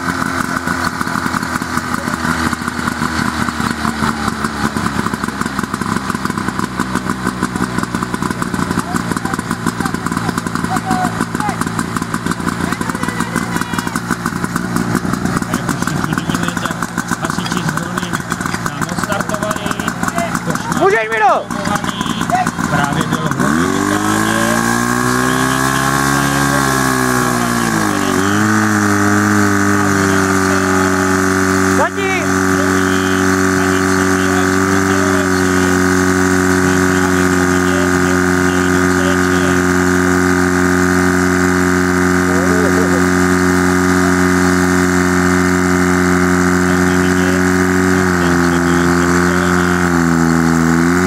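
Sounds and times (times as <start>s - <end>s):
pump engine running: 0.0s - 51.0s.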